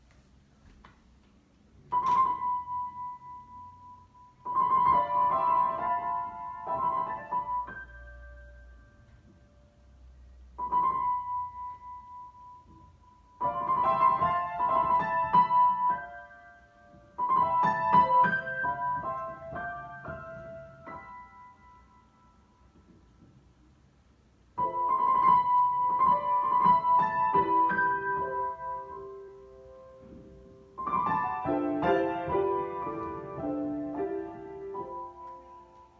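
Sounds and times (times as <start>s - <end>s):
solo piano improvisation: 1.8s - 35.9s.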